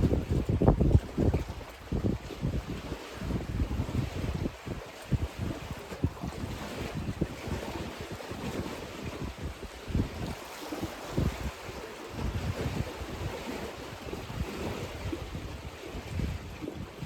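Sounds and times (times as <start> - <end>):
waves splashing on shore: 0.0 - 17.0
wind buffeting microphone: 0.0 - 17.0.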